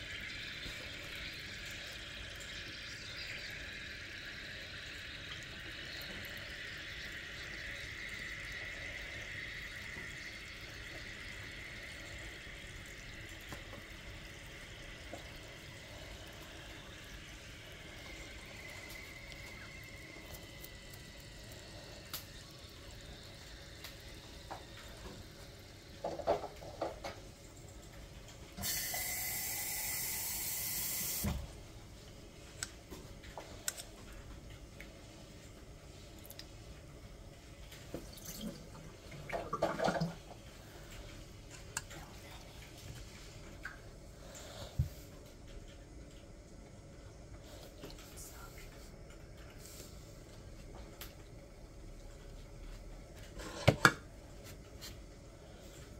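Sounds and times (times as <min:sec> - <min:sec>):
soft fizzing: 0:00.0 - 0:53.4.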